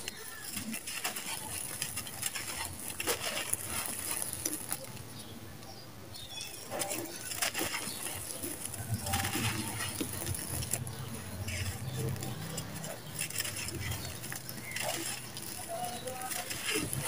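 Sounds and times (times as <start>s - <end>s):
dry sand pattering onto a pile: 0.0s - 5.4s, 6.4s - 17.0s.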